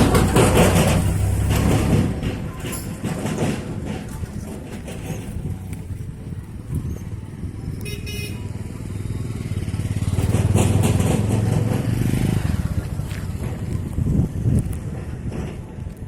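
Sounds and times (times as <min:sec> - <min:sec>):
vehicle engine running: 0:00.0 - 0:07.8, 0:08.4 - 0:16.0.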